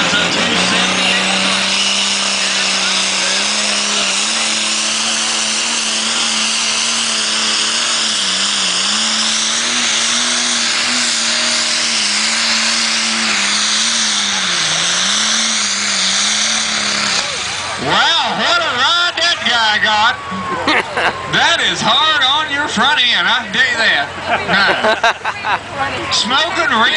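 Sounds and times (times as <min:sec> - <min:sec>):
high turbo whine: 0:00.0 - 0:26.9
tractor engine running flat out: 0:00.0 - 0:26.9.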